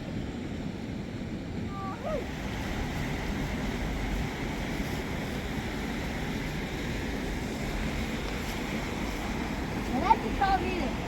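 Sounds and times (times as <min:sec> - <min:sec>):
wind rumbling on microphone: 0:00.0 - 0:11.0
river water rushing: 0:01.7 - 0:11.0.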